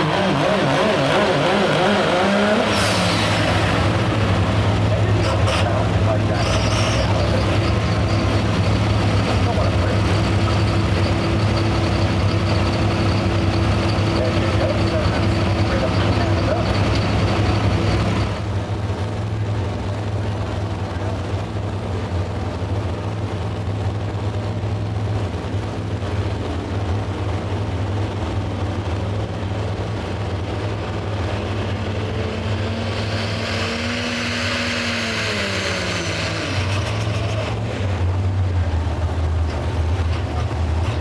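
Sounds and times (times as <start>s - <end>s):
diesel truck engine under load: 0.0s - 41.0s
pitched whine: 0.0s - 41.0s.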